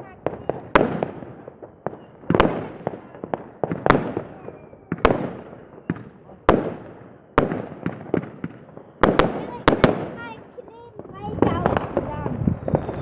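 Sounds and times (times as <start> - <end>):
loud firework bangs: 0.0 - 13.0
small firework cracks and pops: 0.0 - 13.0.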